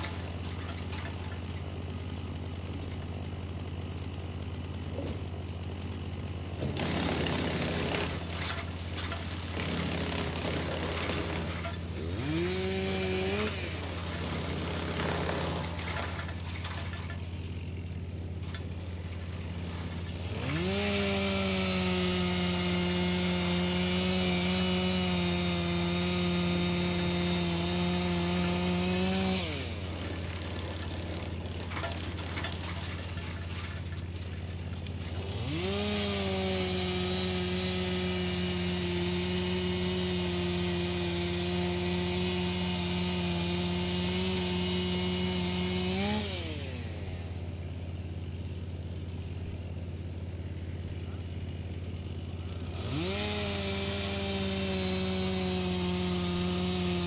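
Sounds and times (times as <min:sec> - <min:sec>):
wood chipper running: 0:00.0 - 0:57.0.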